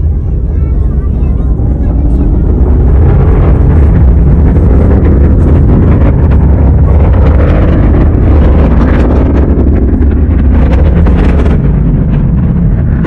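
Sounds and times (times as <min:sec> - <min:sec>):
distant rocket roar with crackling: 0:00.0 - 0:13.0.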